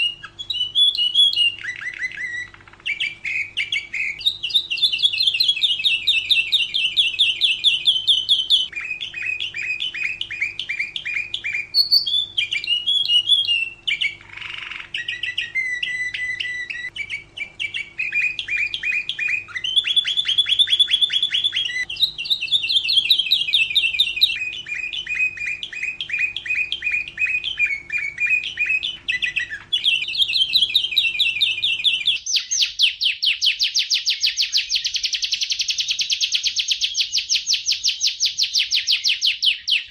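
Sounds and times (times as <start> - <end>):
canary singing trills: 0.0 - 39.9
faint steady hum: 0.0 - 39.9.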